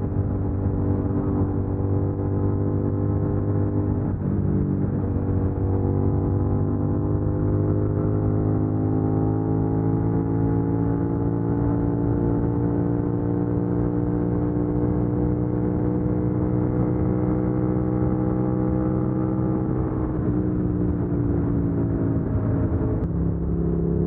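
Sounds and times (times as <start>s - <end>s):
motorcycle engine at highway speed: 0.0s - 24.0s
road and wind noise: 0.0s - 24.0s.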